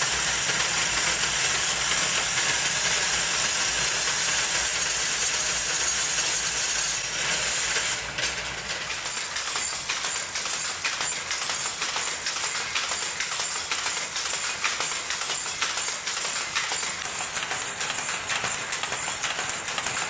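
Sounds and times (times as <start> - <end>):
loom rattling clatter: 0.1 - 20.0
pirn winder whirring: 0.1 - 20.0.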